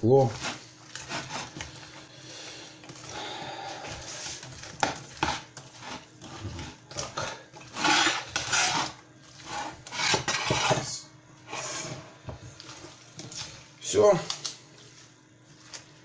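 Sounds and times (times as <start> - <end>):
hands mixing food in a pot: 0.0 - 16.0.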